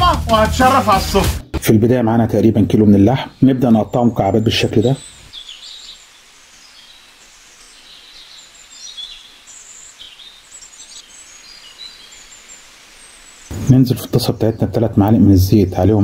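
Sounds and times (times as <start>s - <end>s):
small birds chirping: 2.4s - 16.0s
faint steady hiss: 3.1s - 16.0s.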